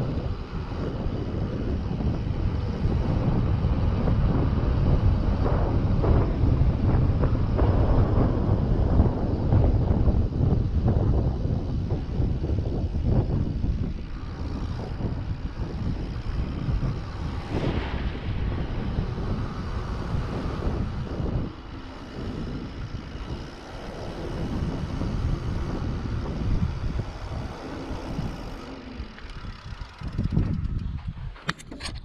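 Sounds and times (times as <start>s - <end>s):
bike tyres rolling on asphalt: 0.0s - 31.5s
wind buffeting microphone: 0.0s - 32.0s.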